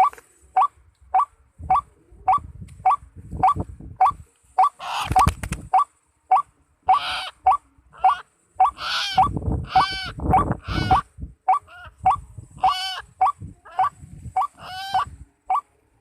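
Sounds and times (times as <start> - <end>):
bird harsh croaking calls: 0.0 - 15.6.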